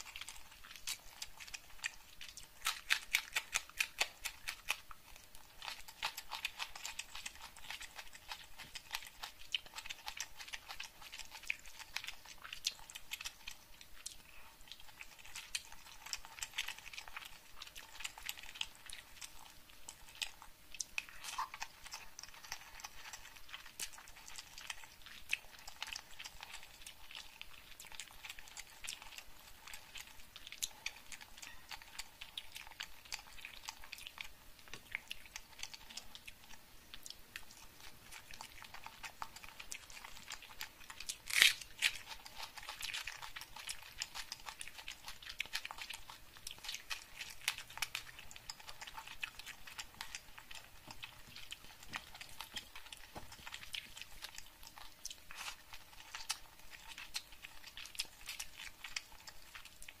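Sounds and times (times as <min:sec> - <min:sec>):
crunching and chewing food: 0:00.0 - 1:00.0.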